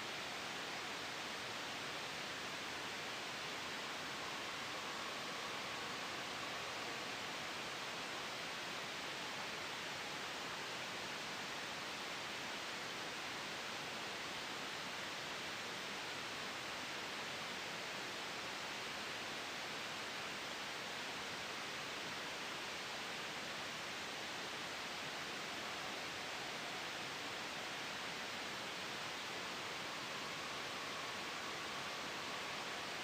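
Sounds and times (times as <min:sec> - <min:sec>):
gentle wind: 0:00.0 - 0:33.0
soft white noise hiss: 0:00.0 - 0:33.0.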